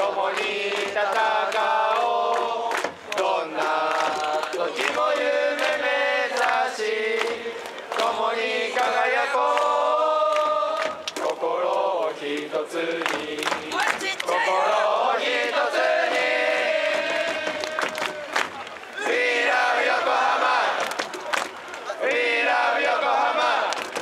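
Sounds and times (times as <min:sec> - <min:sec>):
fans singing and chanting in unison: 0:00.0 - 0:24.0
sharp claps: 0:00.2 - 0:08.2, 0:08.8 - 0:14.4, 0:15.5 - 0:19.0, 0:20.4 - 0:22.3, 0:23.6 - 0:24.0.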